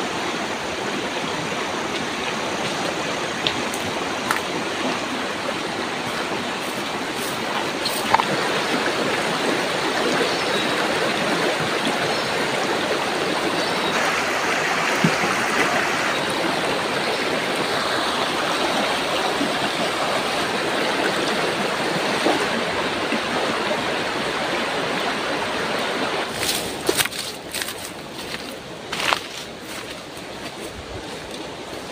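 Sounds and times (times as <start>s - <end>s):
river flowing over stones: 0.0s - 31.9s.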